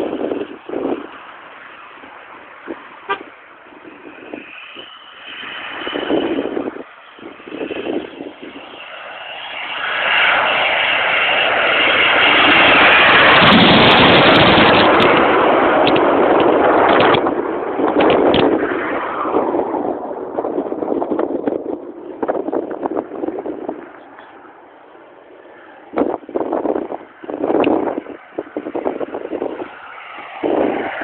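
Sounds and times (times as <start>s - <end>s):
jet passing close: 0.0s - 31.0s.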